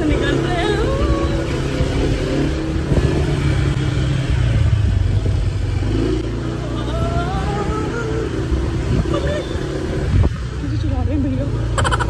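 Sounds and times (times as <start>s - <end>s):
motorbike engine rumbling: 0.0s - 12.0s.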